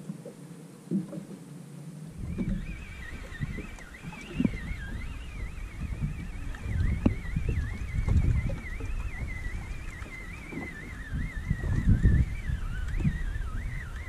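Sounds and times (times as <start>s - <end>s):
water around boat: 0.0s - 14.0s
wind: 0.0s - 14.0s
high wavering whine: 1.5s - 14.0s.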